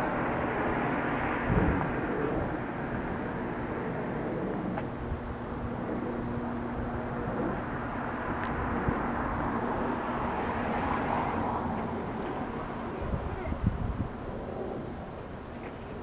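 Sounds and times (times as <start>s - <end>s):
distant propeller plane drone: 0.0s - 16.0s.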